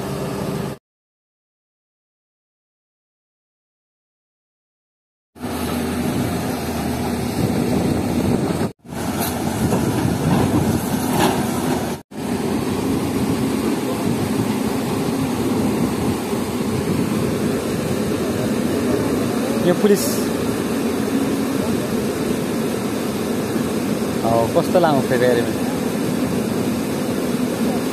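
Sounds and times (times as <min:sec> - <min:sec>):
excavator diesel engine droning: 0:00.0 - 0:00.8, 0:05.4 - 0:27.9.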